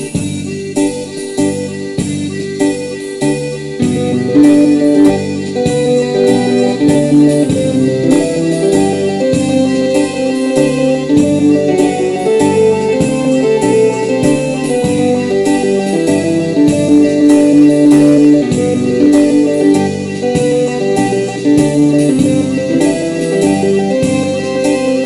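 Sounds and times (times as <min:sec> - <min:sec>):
instrumental music with steady beat: 0:00.0 - 0:25.0.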